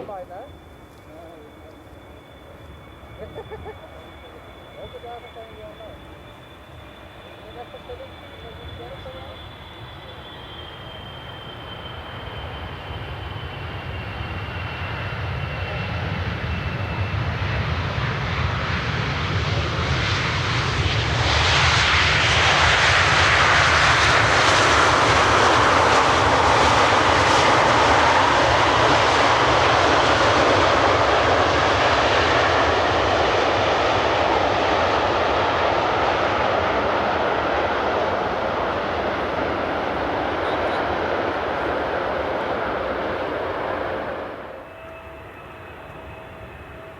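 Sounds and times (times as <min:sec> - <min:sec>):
high engine whine: 0:00.0 - 0:46.9
jet airliner roar: 0:00.0 - 0:46.9.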